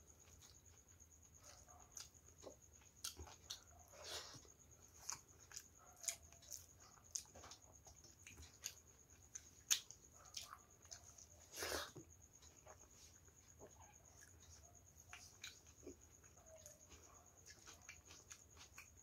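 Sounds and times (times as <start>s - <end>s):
chewing: 0.1s - 19.0s.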